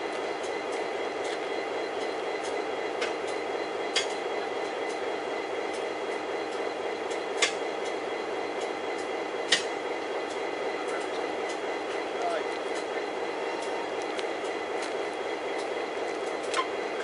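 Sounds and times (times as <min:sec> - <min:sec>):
heavy machinery droning: 0:00.0 - 0:17.0.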